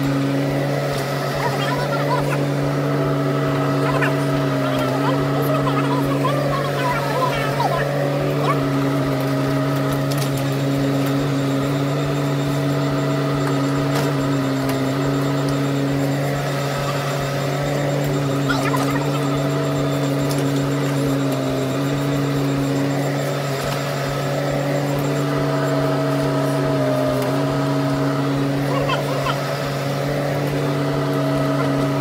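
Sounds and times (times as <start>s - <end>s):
mini excavator diesel engine: 0.0s - 32.0s.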